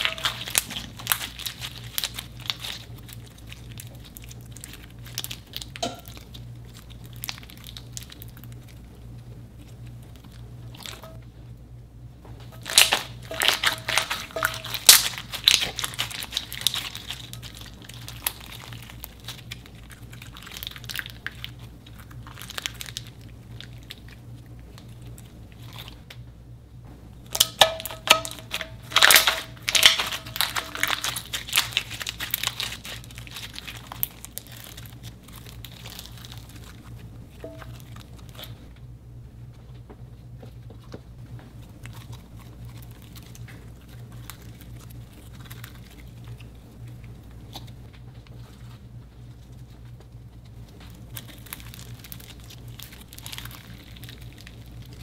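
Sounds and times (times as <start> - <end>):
slime crackling and popping: 0.0 - 11.2, 12.6 - 26.2, 27.3 - 38.7, 41.3 - 55.0
slime squishing: 0.0 - 11.3, 12.4 - 26.2, 27.2 - 38.8, 39.4 - 55.0.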